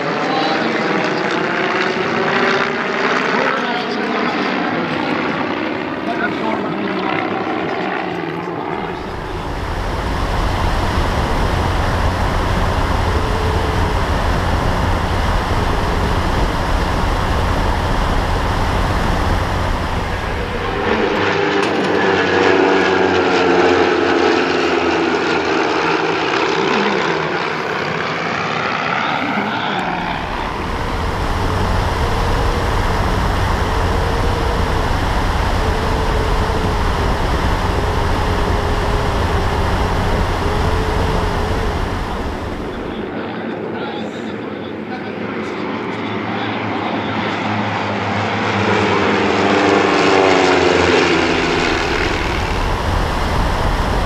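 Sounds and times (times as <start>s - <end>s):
propeller plane engines: 0.0s - 54.0s.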